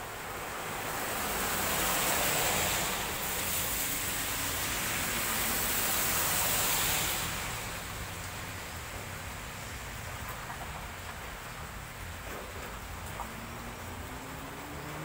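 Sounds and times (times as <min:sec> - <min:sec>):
cars passing on wet road: 0:00.0 - 0:15.0.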